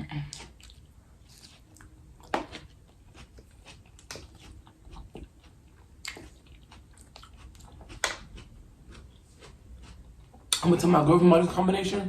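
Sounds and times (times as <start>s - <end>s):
person chewing food: 0.2s - 10.6s.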